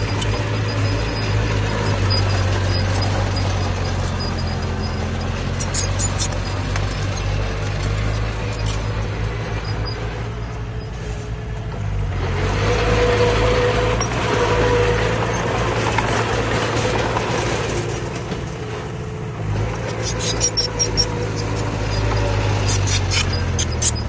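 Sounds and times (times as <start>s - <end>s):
diesel machinery droning: 0.0s - 24.0s.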